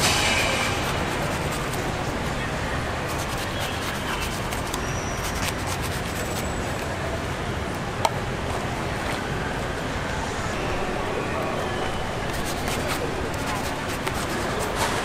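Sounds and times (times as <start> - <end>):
outdoor market noise: 0.0 - 15.0
traffic noise: 0.0 - 15.0.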